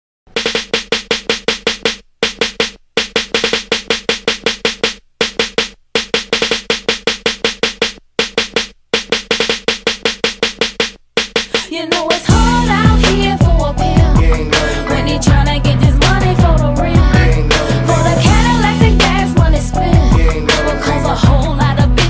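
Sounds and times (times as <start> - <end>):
fast drum machine pattern: 0.3 - 22.0.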